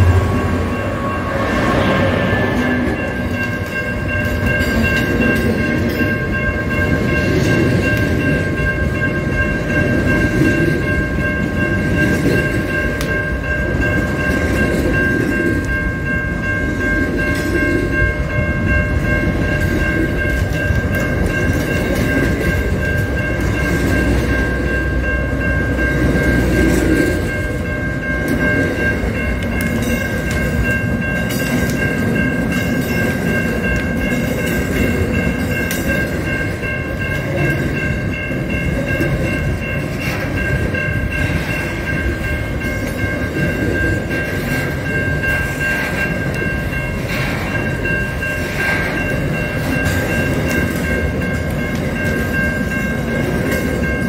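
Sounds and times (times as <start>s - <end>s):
steady high ringing tones: 0.0s - 54.0s
train wheels rumbling and clattering: 0.0s - 54.0s.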